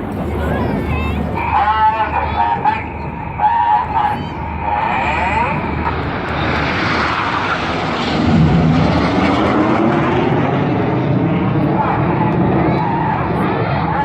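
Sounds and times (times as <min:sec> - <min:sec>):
jets roaring overhead: 0:00.0 - 0:14.0.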